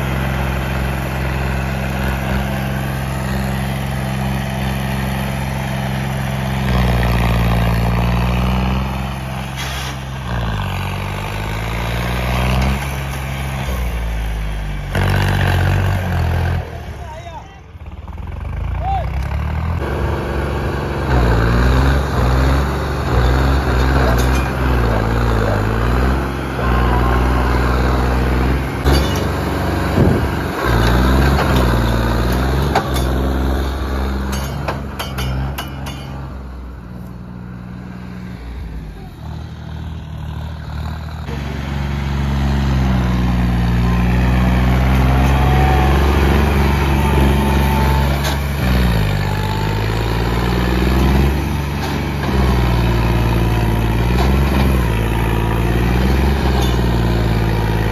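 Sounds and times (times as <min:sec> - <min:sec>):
tractor diesel engine revving: 0:00.0 - 0:57.9.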